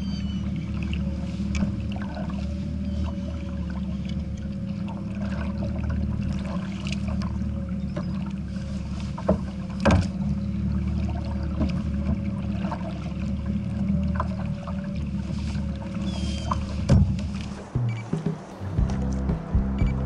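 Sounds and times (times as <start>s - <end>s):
water lapping against kayak hull: 0.0s - 20.0s.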